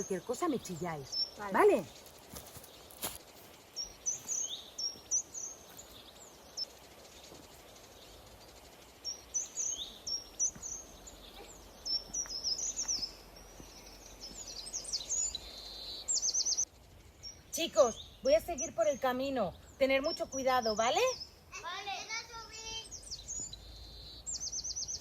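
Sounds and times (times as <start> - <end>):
faint outdoor hiss: 0.0 - 25.0
songbird chirping: 0.0 - 25.0.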